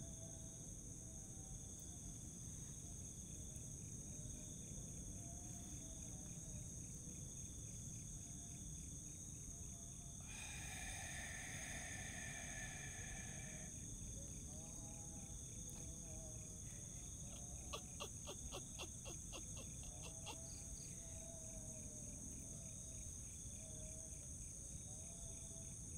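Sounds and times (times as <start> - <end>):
cricket trilling: 0.0 - 25.9
crickets chirping: 0.0 - 25.9.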